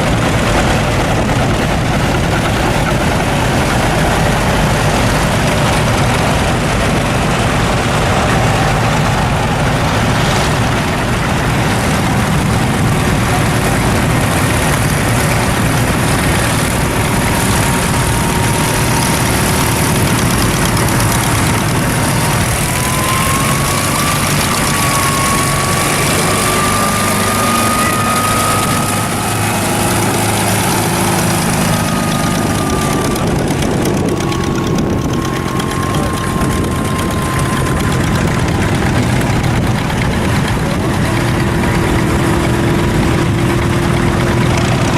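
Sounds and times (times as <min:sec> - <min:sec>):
tractor engines idling: 0:00.0 - 0:44.9.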